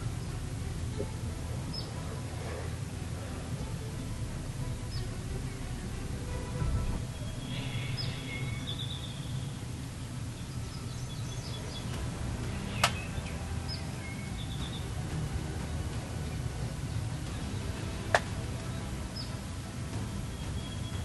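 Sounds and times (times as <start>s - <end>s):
small birds chirping: 0.0s - 4.2s, 6.8s - 21.0s
low background noise: 0.0s - 21.0s.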